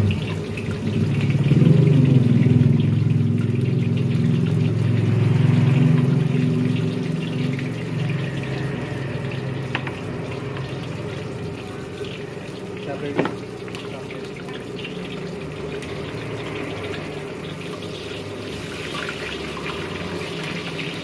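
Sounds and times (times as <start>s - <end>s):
egg sizzling in hot oil: 0.0s - 21.0s.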